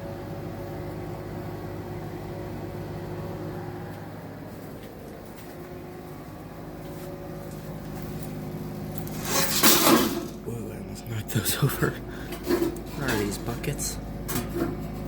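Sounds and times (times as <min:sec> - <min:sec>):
gas furnace humming: 0:00.0 - 0:15.0.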